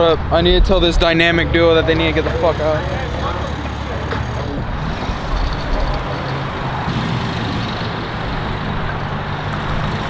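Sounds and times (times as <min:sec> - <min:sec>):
car engine idling: 0:00.5 - 0:10.0.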